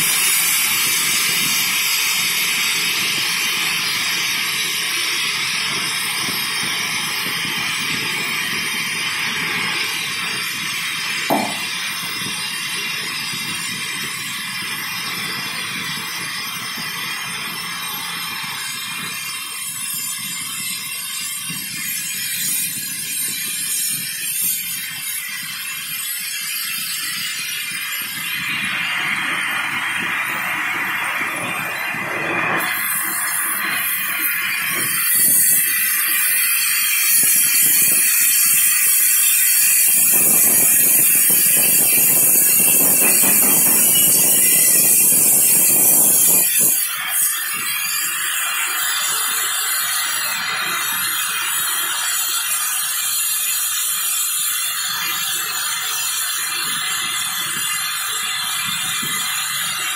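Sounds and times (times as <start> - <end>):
gas torch hissing: 0.0 - 23.4, 24.0 - 59.9.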